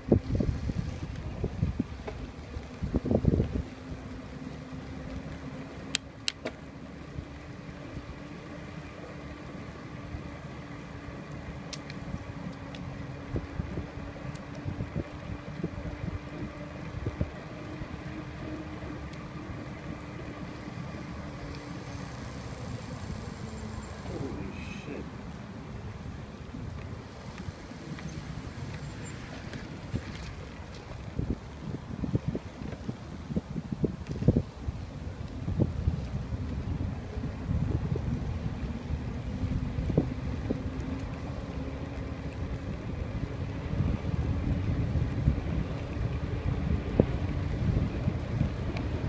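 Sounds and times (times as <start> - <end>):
wind buffeting microphone: 0.0 - 6.0, 10.0 - 49.0
bicycle rolling on pavers: 0.0 - 49.0.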